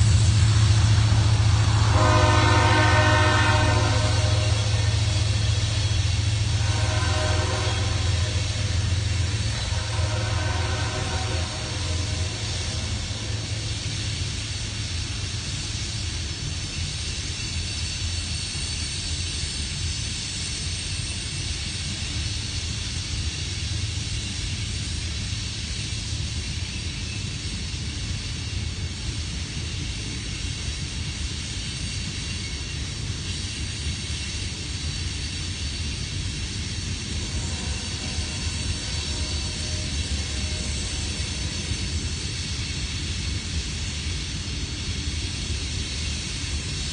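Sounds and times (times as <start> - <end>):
freight train rumbling past: 0.0 - 46.9
steel wheels hissing on track: 0.0 - 46.9.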